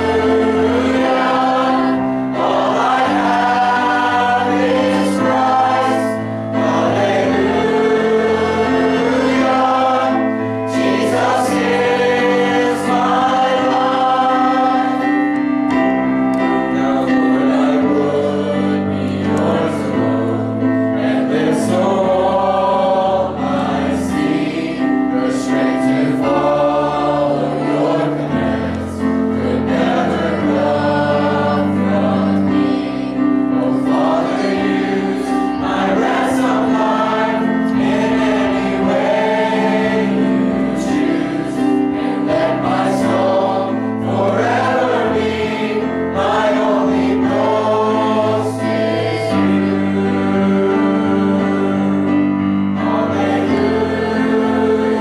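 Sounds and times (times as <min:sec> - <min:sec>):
choir singing gospel: 0:00.0 - 0:55.0
instrumental backing chords: 0:00.0 - 0:55.0.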